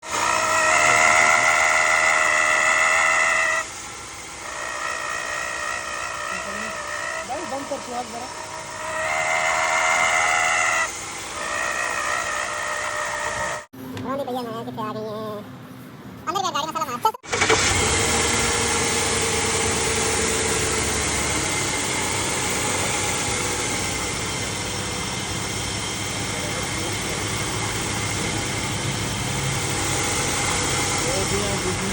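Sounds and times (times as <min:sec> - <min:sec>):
vehicle running: 0:00.0 - 0:31.9.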